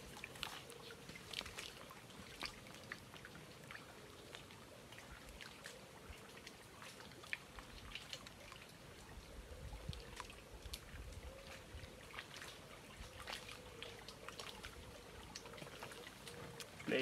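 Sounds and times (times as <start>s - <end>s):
water dripping and splashing: 0.0s - 17.0s.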